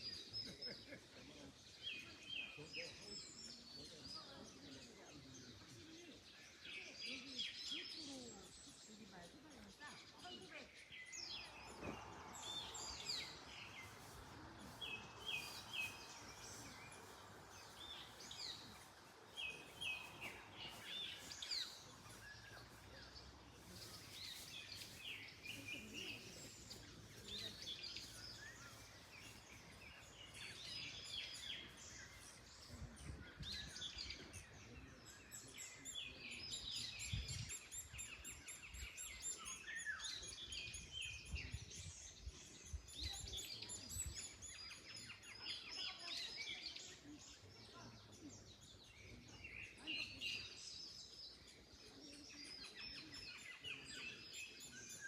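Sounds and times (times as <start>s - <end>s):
songbirds chirping and singing: 0.0s - 55.0s
wind rustling trees: 1.5s - 54.9s.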